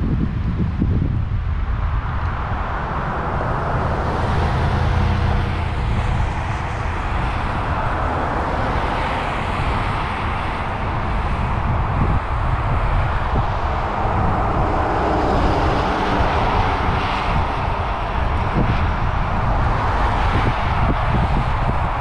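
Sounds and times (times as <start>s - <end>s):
road and traffic hiss: 0.0s - 22.0s
wind buffeting microphone: 0.0s - 22.0s.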